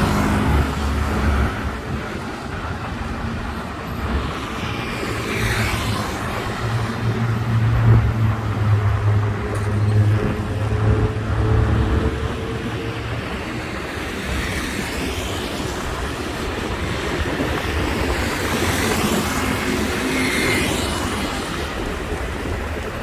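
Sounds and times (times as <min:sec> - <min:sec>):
traffic wash: 0:00.0 - 0:23.0
vehicle engine humming: 0:00.0 - 0:23.0.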